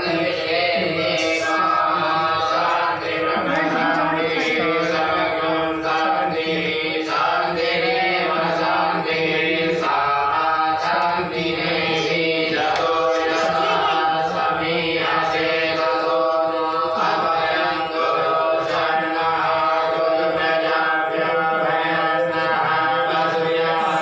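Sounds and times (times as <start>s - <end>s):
steady drone: 0.0s - 24.0s
voices chanting a mantra: 0.0s - 24.0s.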